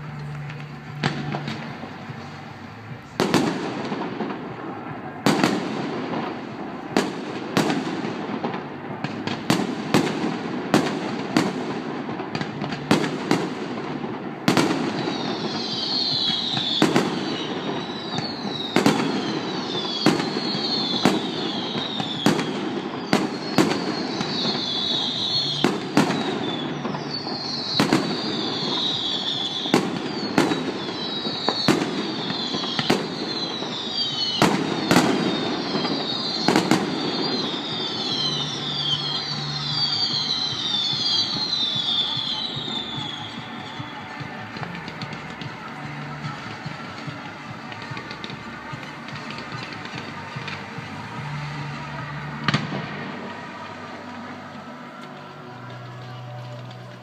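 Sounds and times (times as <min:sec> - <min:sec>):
fireworks bangs: 0:00.0 - 0:57.0
fireworks crackle: 0:00.0 - 0:57.0.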